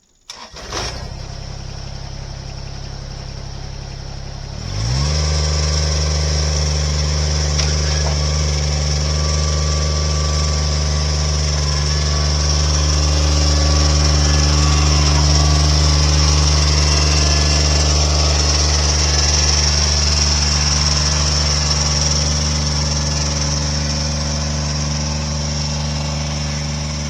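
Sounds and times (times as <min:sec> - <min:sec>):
heavy equipment engine revving: 0:00.3 - 0:27.0.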